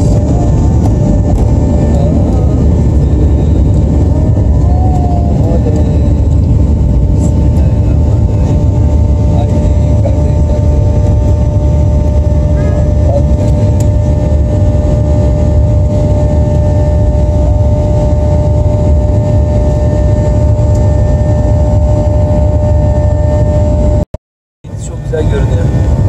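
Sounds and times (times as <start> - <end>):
jet engines roaring in cabin: 0.0 - 24.0, 24.6 - 26.0
constant engine whine: 0.0 - 26.0.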